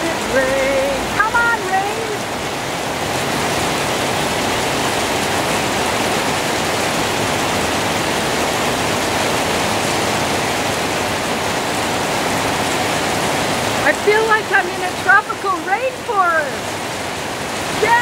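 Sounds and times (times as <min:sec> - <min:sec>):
heavy rain on leaves: 0:00.0 - 0:18.0.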